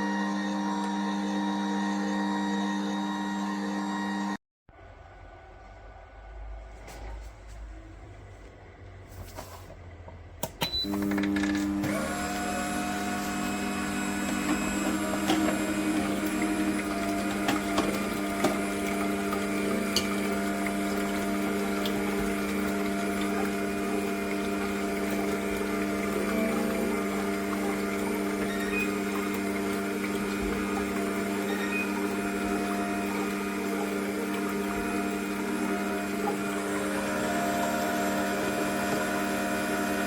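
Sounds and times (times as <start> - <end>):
juicer motor humming: 0.0 - 4.4, 10.4 - 40.0.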